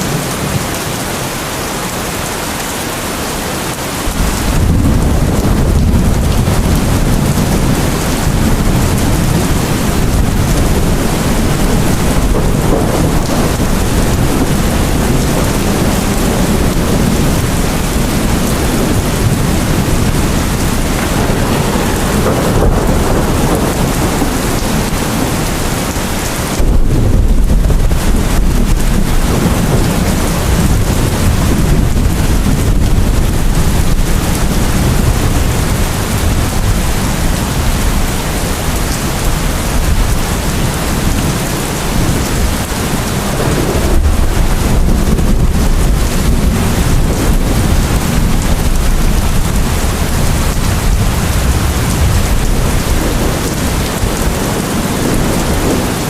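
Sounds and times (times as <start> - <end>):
heavy rain: 0.0 - 56.0
rolling thunder: 4.0 - 56.0.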